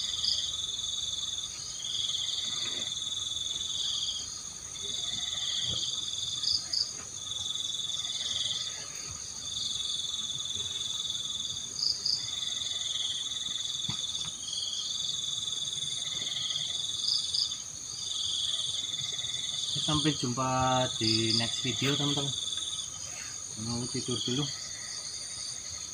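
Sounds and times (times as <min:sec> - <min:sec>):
crickets and insects trilling: 0:00.0 - 0:25.9.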